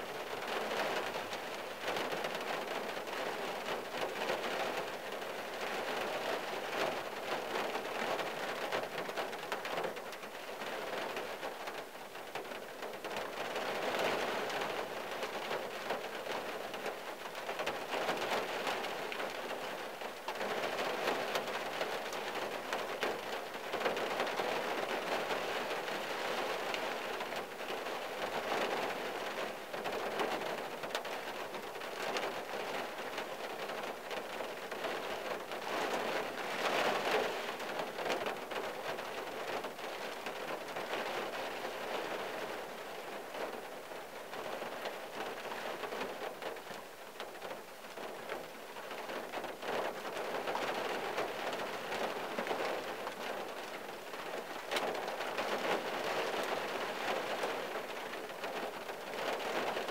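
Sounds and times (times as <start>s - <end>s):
rain pattering on a car: 0.0s - 59.9s.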